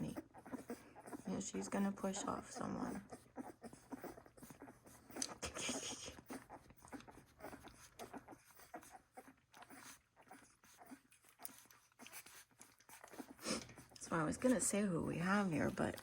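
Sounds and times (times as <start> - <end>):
puppies suckling: 0.0 - 16.0.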